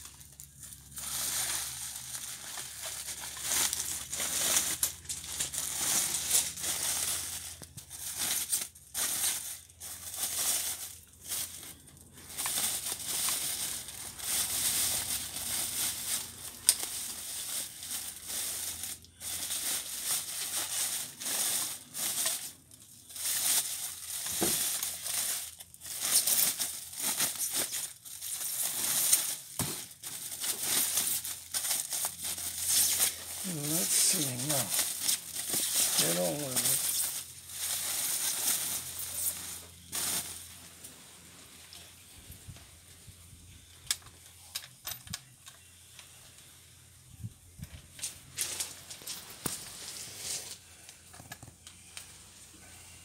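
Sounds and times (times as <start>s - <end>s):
plastic wrapping crinkling: 0.0s - 41.9s, 47.9s - 52.0s.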